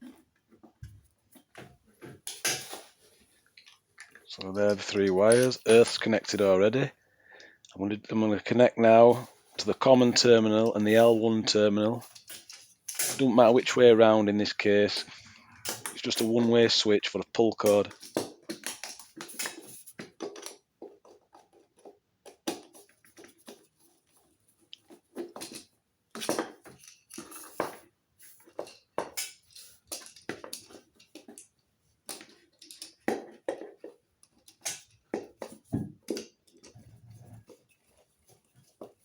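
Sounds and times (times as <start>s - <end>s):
clicks taps and scrapes of tools: 0.0s - 6.6s, 8.8s - 13.9s, 17.6s - 39.0s.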